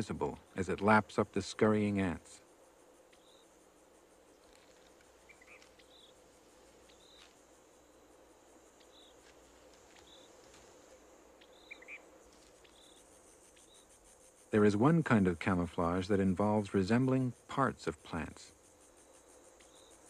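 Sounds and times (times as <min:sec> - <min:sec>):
insect chirps: 0:00.0 - 0:20.0
insect trilling: 0:00.0 - 0:20.0.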